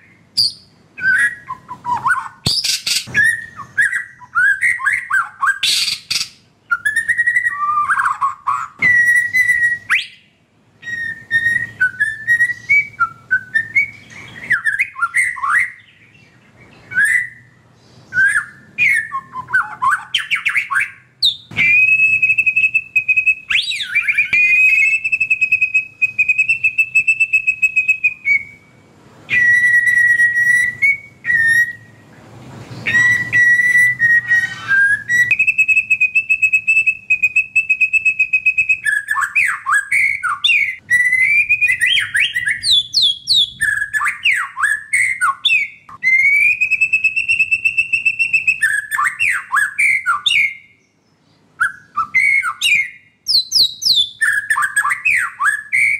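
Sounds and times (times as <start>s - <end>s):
bird singing trills and whistles: 0.0s - 32.0s, 32.7s - 55.9s.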